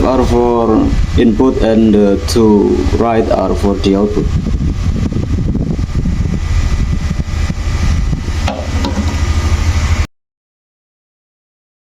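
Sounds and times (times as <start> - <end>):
small fan whirring: 0.0 - 10.1.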